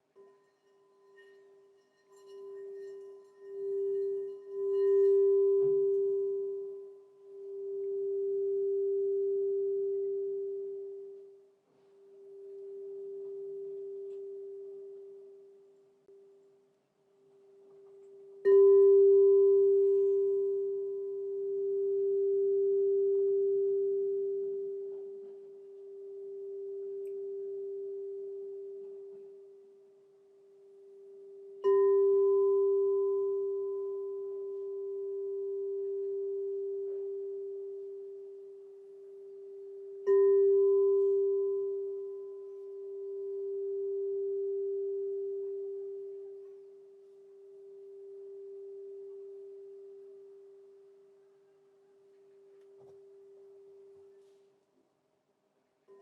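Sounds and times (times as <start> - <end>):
crystal singing bowl ringing: 0.0 - 16.3, 17.6 - 51.6.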